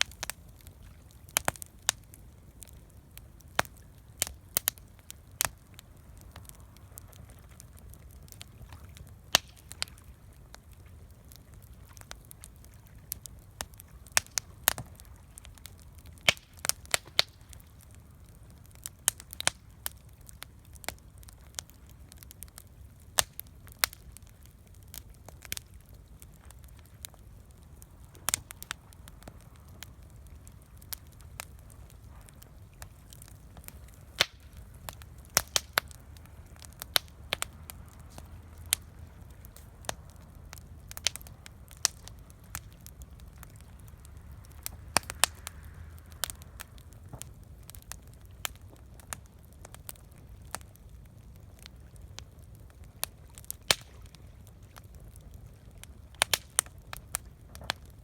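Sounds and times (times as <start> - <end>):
faint low rumble: 0.0 - 56.2
campfire crackling and popping: 0.0 - 58.0.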